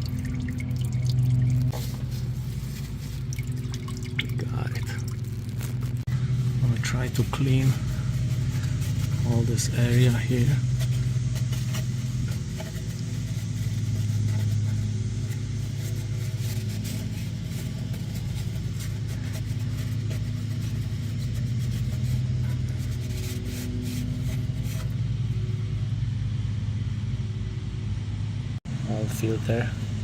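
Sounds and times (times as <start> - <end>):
low mechanical drone: 0.0 - 30.0.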